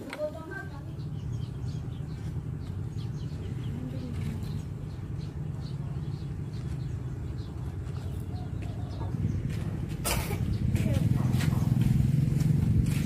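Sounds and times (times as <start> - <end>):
small birds chirping: 0.0 - 13.0
steady low rumble: 0.3 - 13.0.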